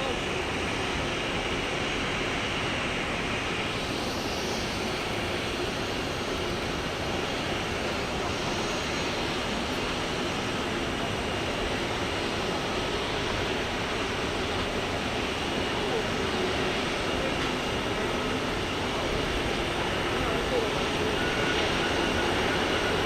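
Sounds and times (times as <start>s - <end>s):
jet engines roaring at low thrust: 0.0s - 23.0s.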